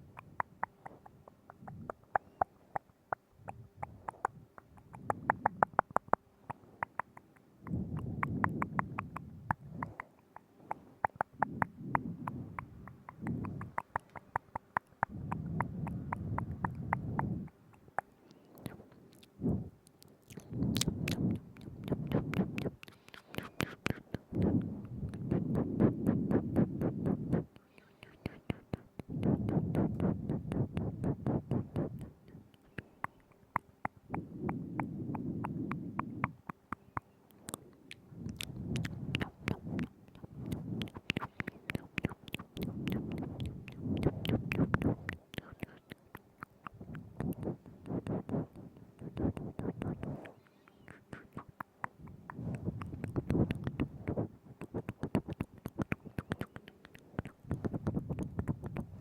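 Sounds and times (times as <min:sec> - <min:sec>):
soft low muffled rumble: 0:00.0 - 0:59.0
wet tongue and lip clicks: 0:00.0 - 0:59.0.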